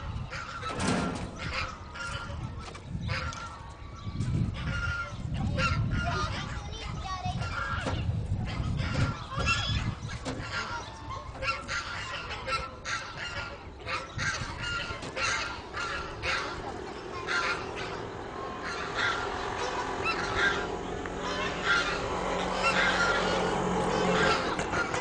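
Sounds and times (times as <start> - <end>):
birds honking: 0.0 - 25.0.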